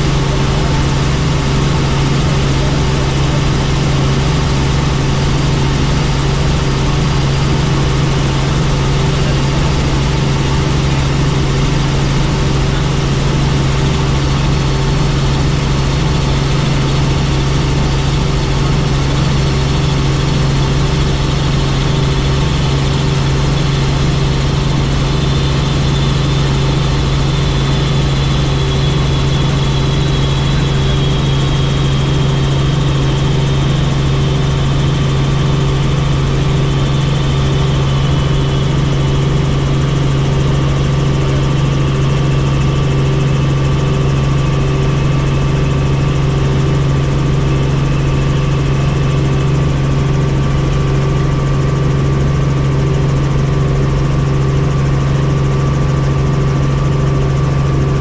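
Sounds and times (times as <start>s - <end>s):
helicopter engine and rotors: 0.0s - 58.0s.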